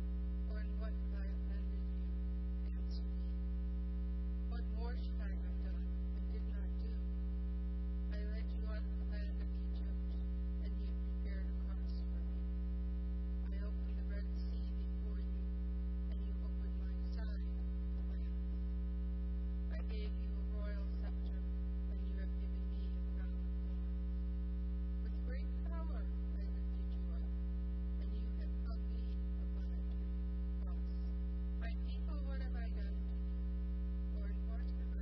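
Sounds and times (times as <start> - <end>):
electrical mains hum: 0.0 - 35.0
faint indistinct sounds: 0.0 - 35.0.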